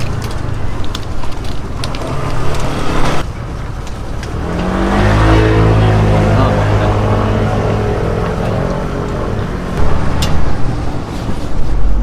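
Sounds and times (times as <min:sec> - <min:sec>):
large vehicle engine hum: 0:00.0 - 0:12.0
roadside traffic noise: 0:00.0 - 0:12.0.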